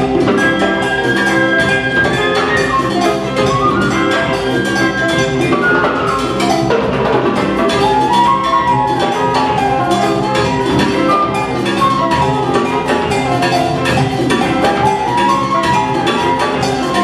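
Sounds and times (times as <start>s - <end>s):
drum kit beat: 0.0s - 17.0s
flute melody: 0.0s - 17.0s
live jazz band playing: 0.0s - 17.0s
percussion: 0.0s - 17.0s.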